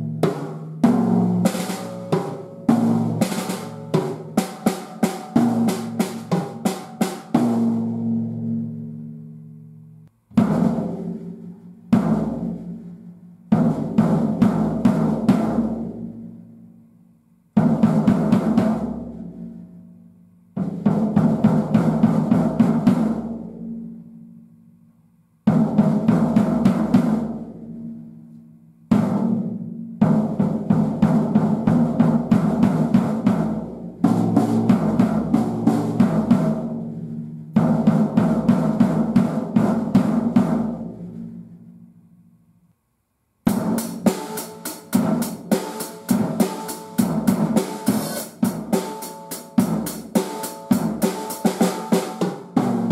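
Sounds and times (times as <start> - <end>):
drum kit fills and beats: 0.0 - 9.1, 10.1 - 16.4, 17.4 - 19.6, 20.4 - 24.0, 25.4 - 27.9, 28.8 - 41.6, 43.4 - 52.9.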